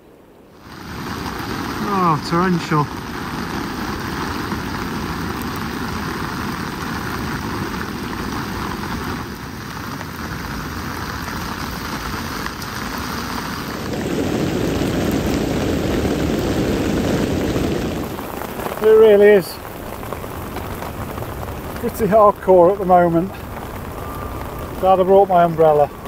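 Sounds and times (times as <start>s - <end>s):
torrential rain pouring: 0.0s - 26.0s.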